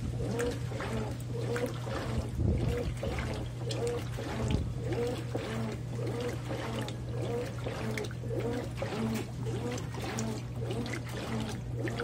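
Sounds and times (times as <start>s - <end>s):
washing machine motor hum: 0.0s - 12.0s
water sloshing: 0.0s - 12.0s.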